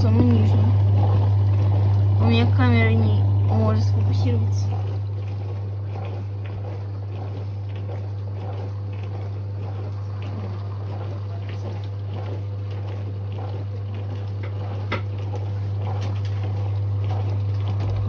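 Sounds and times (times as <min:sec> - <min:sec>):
dishwasher pump hum: 0:00.0 - 0:18.0
water swishing and trickling: 0:00.0 - 0:18.0.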